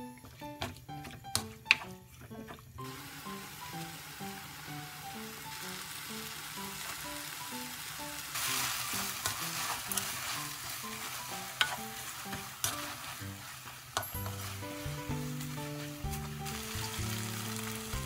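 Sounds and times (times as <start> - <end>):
soft background music: 0.0 - 18.0
food sizzling in frying pan: 2.8 - 18.0.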